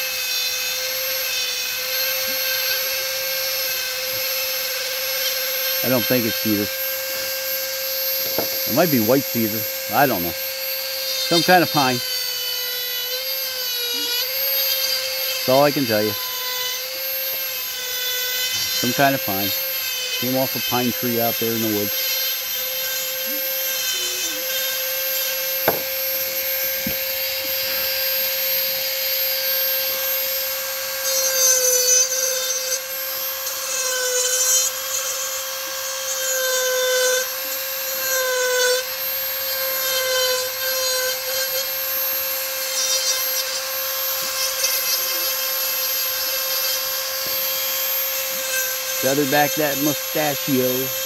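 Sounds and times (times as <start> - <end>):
rotary tool grinding wood: 0.0 - 51.0.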